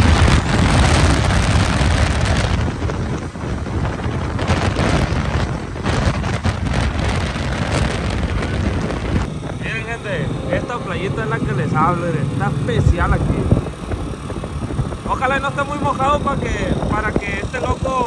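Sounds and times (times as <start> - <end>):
motorcycle engines running: 0.0 - 18.0
wind buffeting microphone: 0.0 - 18.0.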